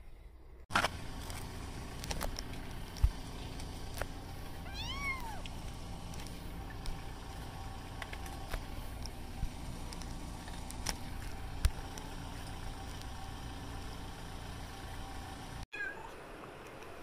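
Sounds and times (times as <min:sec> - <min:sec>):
low engine rumble: 0:00.2 - 0:15.6.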